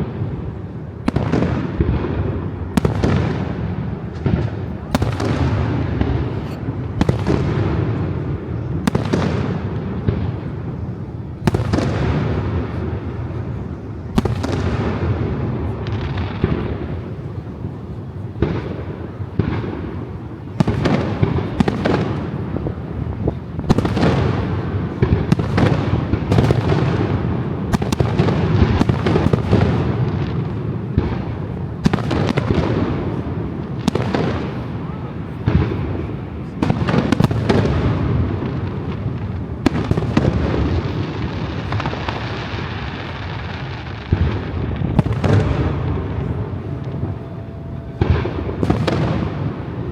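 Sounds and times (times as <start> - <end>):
fireworks bursts and booms: 0.0 - 49.9.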